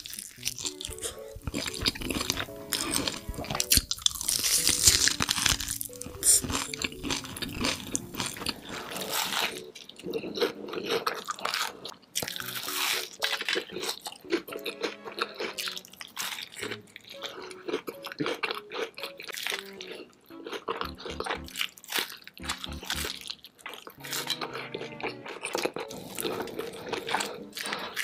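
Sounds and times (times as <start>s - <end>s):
soft background music: 0.0s - 11.1s, 11.8s - 28.0s
crunchy chewing: 0.0s - 28.0s.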